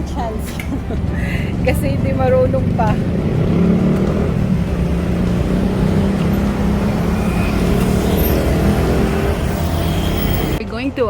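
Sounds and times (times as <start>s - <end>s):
bicycle road noise: 0.0s - 10.9s.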